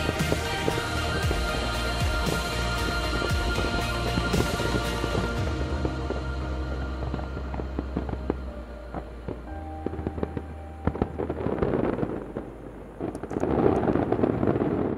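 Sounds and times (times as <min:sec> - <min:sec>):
music with held low notes: 0:00.0 - 0:14.9.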